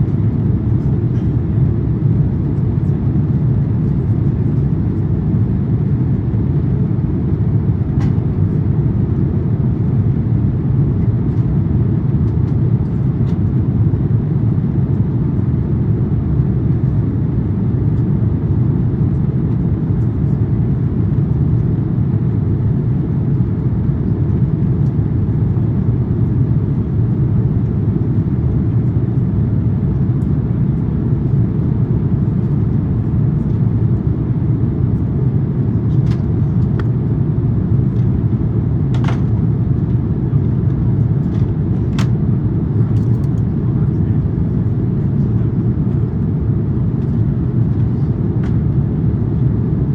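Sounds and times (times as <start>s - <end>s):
airplane cabin low rumble: 0.0s - 49.9s.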